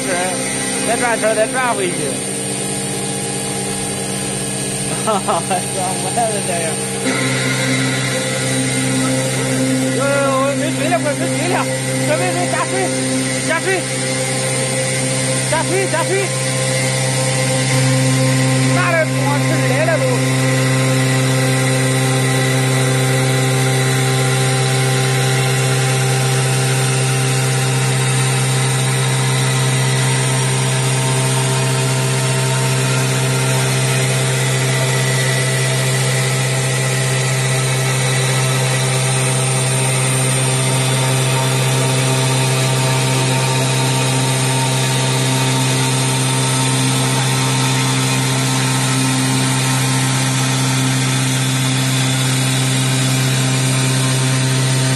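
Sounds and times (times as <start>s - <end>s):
machine hum with whining tones: 0.0s - 54.9s.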